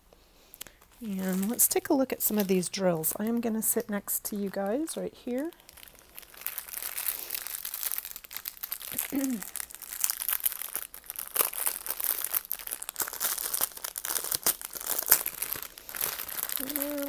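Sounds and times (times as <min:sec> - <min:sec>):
plastic bag crinkling: 0:00.6 - 0:17.0.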